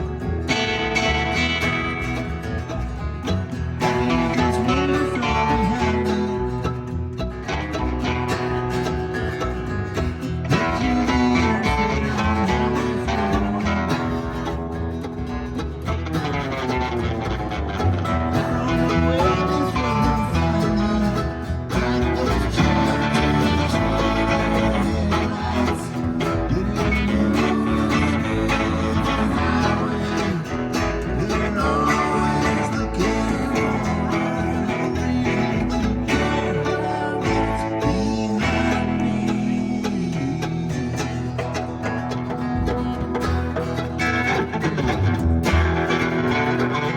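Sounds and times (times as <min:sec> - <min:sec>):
gliding lead melody: 0:00.0 - 0:46.9
live country-rock band: 0:00.0 - 0:46.9
strummed guitar over a beat: 0:00.0 - 0:46.9.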